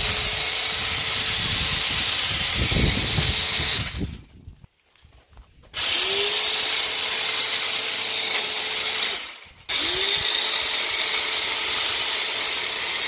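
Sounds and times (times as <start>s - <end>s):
electric hedge trimmer running: 0.0s - 4.2s, 5.7s - 13.0s.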